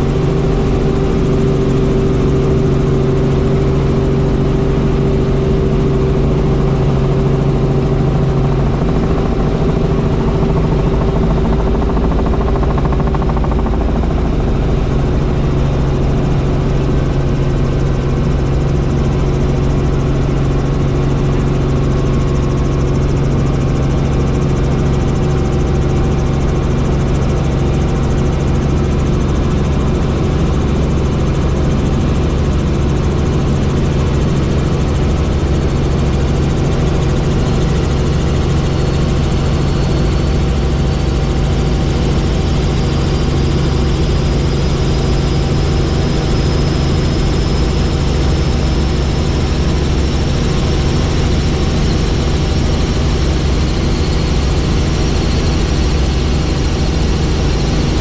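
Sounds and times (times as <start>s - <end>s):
helicopter cabin drone: 0.0s - 58.0s.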